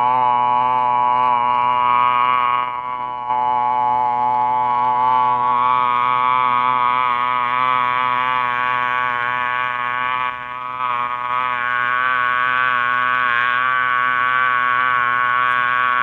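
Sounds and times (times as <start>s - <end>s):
person droning nasal buzz: 0.0s - 16.0s.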